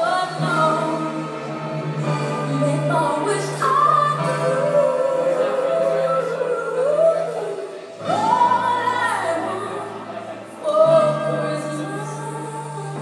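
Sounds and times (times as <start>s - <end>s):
sustained backing music: 0.0s - 13.0s
woman singing slow melody: 0.0s - 13.0s.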